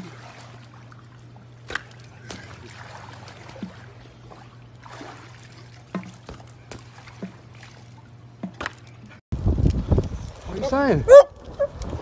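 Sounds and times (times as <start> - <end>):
pool water trickling and lapping: 0.0 - 9.2, 10.0 - 12.0
steady low hum: 0.0 - 12.0.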